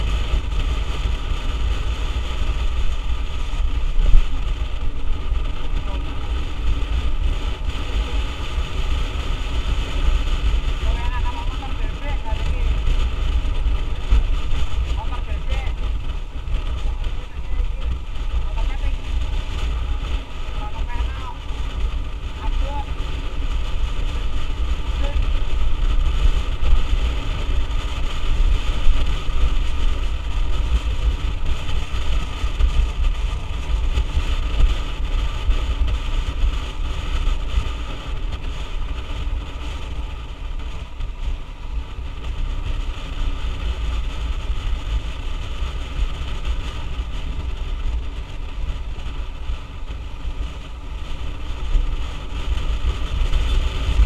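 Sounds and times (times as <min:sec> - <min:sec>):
motorbike engine running: 0:00.0 - 0:54.0
wind rumble on microphone: 0:00.0 - 0:54.0.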